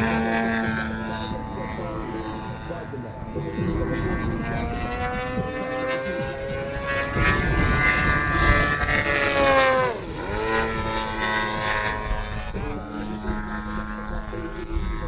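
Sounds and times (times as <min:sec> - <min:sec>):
model plane engine passing: 0:00.0 - 0:15.0.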